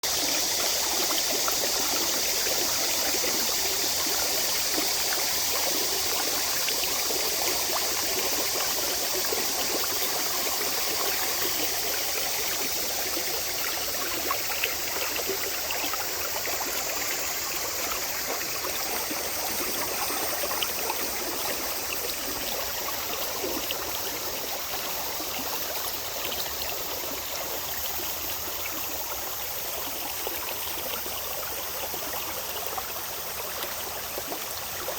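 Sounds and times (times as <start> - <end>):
water splashes and trickles: 0.0 - 34.9.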